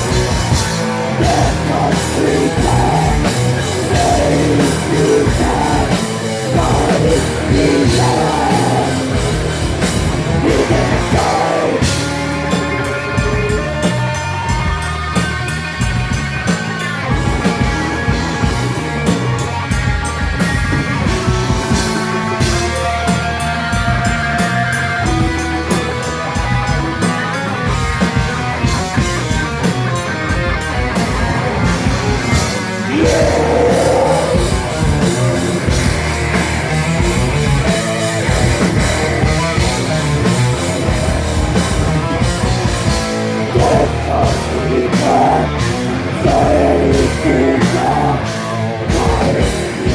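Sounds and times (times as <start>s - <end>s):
drum kit: 0.0s - 49.9s
electric guitars: 0.0s - 49.9s.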